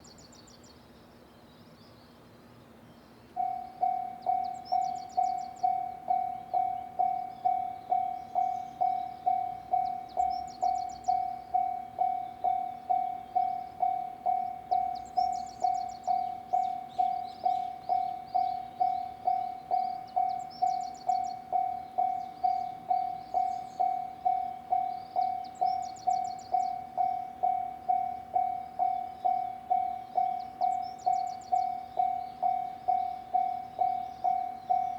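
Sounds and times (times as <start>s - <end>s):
level crossing warning bell: 3.3s - 34.9s.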